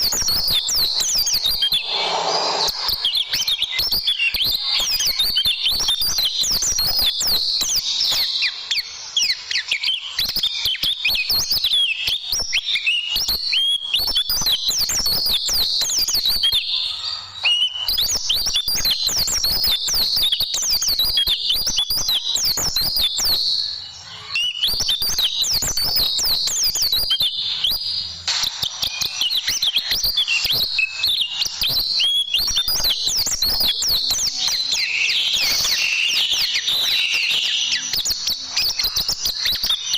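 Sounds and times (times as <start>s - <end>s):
bird song chirps and trills: 0.0s - 39.9s.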